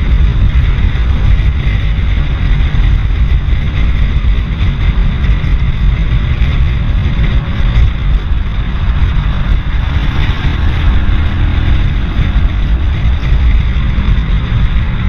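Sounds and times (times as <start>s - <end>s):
road and traffic noise: 0.0s - 15.0s
wind buffeting microphone: 0.0s - 15.0s.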